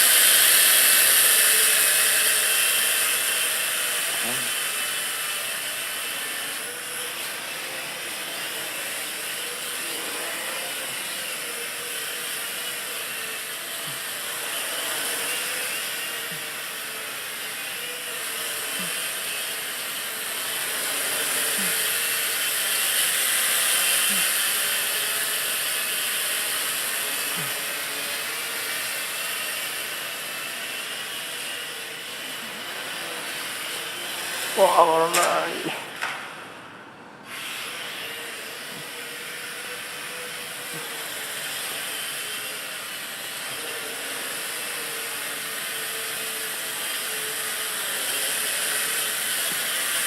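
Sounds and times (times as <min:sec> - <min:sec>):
quadcopter motors whirring: 0:00.0 - 0:36.5, 0:37.2 - 0:50.0.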